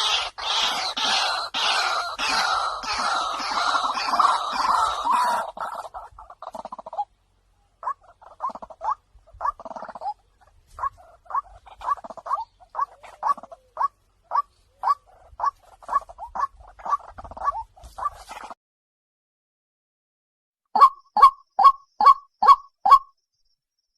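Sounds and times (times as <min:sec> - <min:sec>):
waterhen calls: 0:00.0 - 0:18.6, 0:20.8 - 0:23.1.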